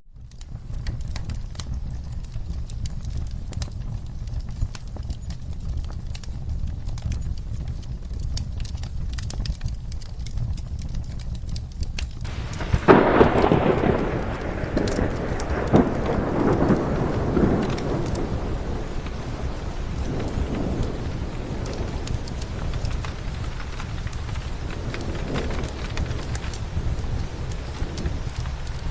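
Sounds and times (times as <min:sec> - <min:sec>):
fireplace crackling: 0:00.1 - 0:28.9
steady rain: 0:00.1 - 0:28.9
thunder rumbling: 0:00.1 - 0:28.9.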